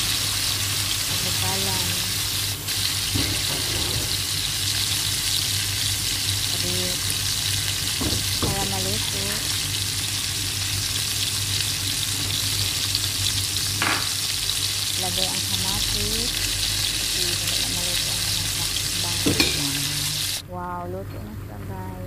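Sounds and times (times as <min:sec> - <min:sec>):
broth boiling in a pan: 0:00.0 - 0:20.4.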